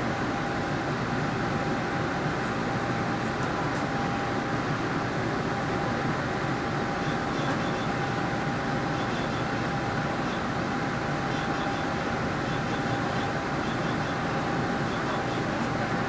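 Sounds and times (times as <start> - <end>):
light-rail train running: 0.0 - 16.0.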